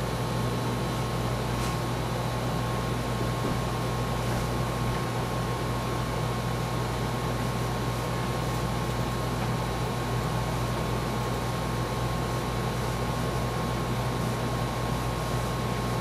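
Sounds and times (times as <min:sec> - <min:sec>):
fan hum and hiss: 0:00.0 - 0:16.0
low electrical hum: 0:00.0 - 0:16.0.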